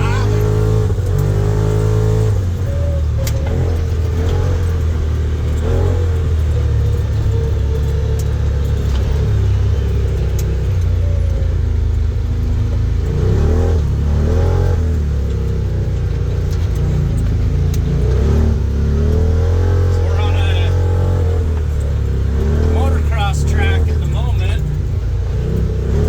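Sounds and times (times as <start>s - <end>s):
engine running hard under load: 0.0s - 14.1s, 17.4s - 26.0s.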